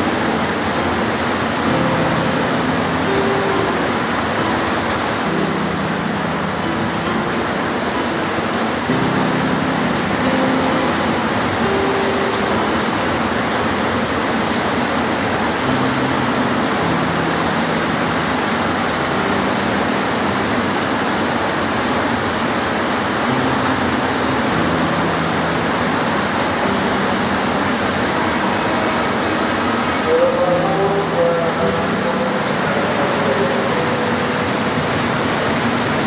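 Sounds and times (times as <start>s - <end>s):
dense rain hiss: 0.0s - 36.0s.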